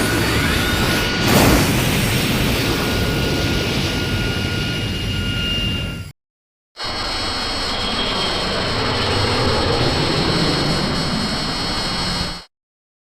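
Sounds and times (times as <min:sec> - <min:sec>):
jet-engine-like roar: 0:00.0 - 0:06.1, 0:06.8 - 0:12.5
thin high whine: 0:00.0 - 0:06.1, 0:06.8 - 0:12.5.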